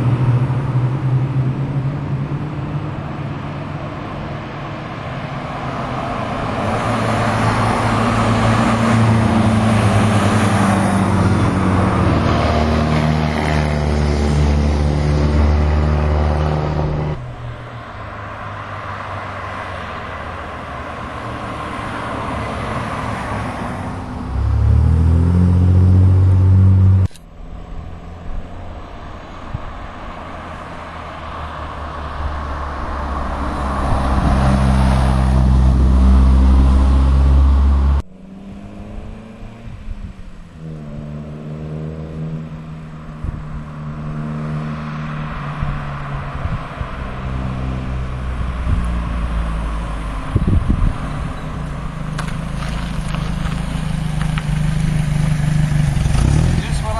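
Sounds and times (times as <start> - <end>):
cars accelerating past: 0.0 - 56.9.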